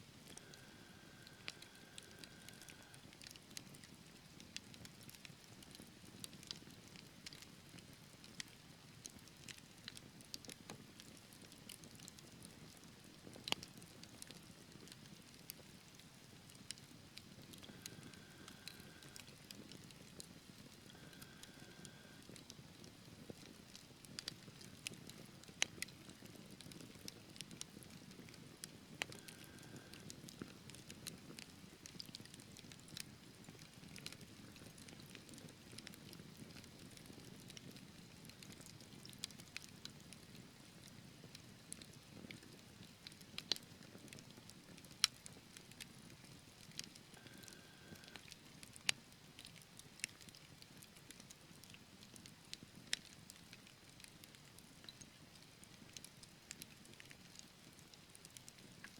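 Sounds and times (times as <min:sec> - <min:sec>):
logs crackling and popping: 0:00.1 - 0:58.9.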